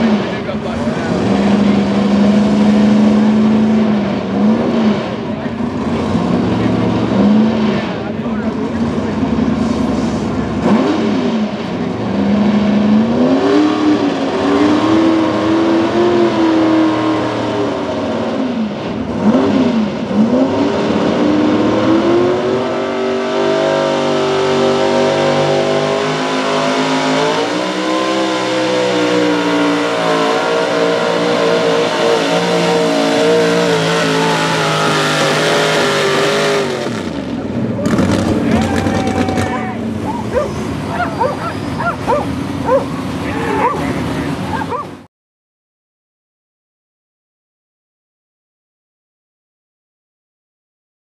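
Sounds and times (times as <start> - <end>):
truck engine revving hard: 0.0 - 45.1.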